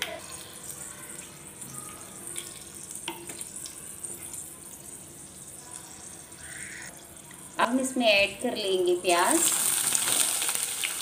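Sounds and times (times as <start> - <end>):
spices sizzling in oil: 0.0 - 11.0.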